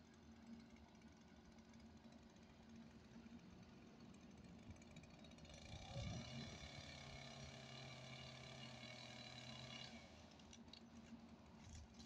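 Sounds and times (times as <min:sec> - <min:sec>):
faint chainsaw cutting: 0:00.0 - 0:12.0.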